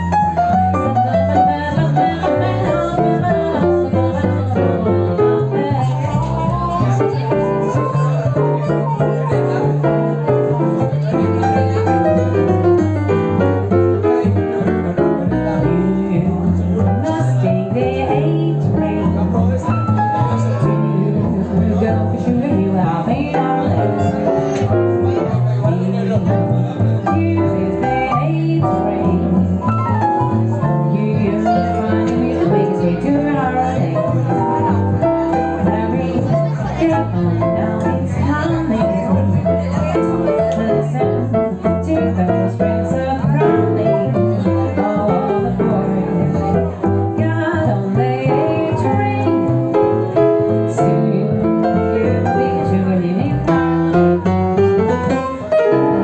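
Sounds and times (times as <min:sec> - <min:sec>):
low bass notes: 0:00.0 - 0:56.0
small jazz group playing: 0:00.0 - 0:56.0.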